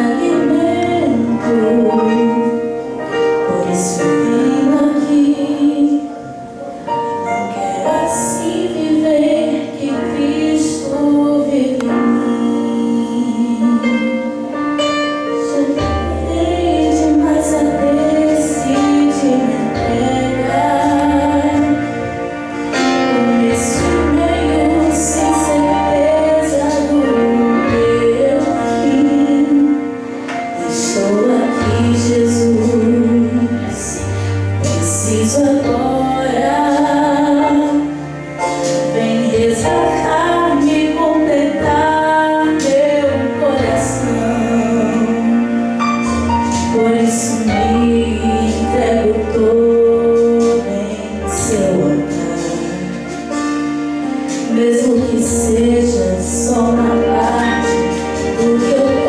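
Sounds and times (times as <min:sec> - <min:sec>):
musical accompaniment with bass: 0:00.0 - 0:59.0
woman singing into microphone: 0:00.0 - 0:59.0.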